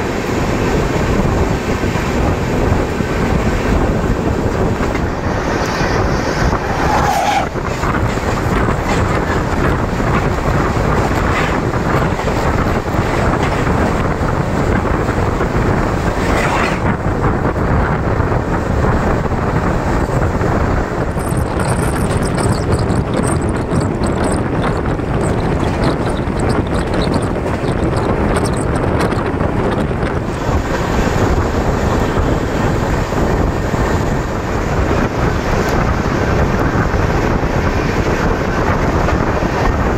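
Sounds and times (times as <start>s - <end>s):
train wheels rumbling on track: 0.0s - 39.9s
wind buffeting microphone: 0.0s - 39.9s.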